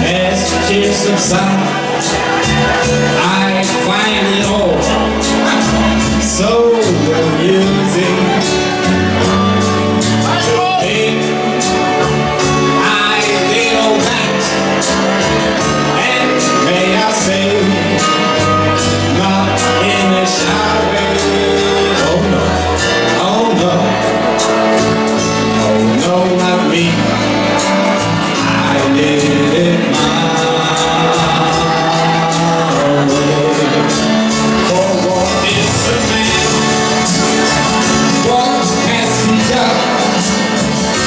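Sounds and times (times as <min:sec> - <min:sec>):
backing music with bass and drums: 0:00.0 - 0:41.0
man singing into a microphone: 0:00.0 - 0:41.0.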